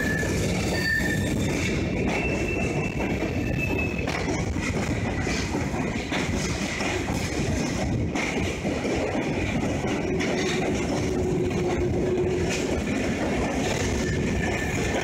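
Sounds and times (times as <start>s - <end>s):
train wheels running on rails: 0.0s - 15.0s.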